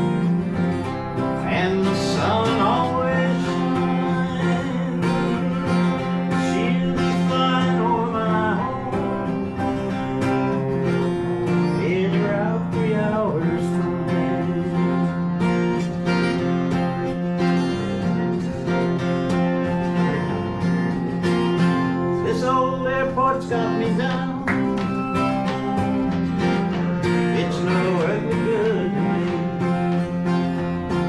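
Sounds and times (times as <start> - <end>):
sliding guitar lead melody: 0.0 - 31.0
strummed acoustic guitar chords: 0.0 - 31.0.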